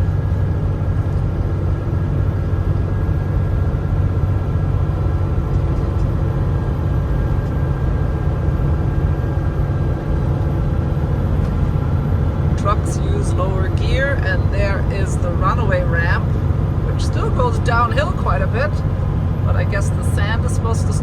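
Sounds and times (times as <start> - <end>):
road noise in cab: 0.0 - 21.0
truck engine drone: 0.0 - 21.0.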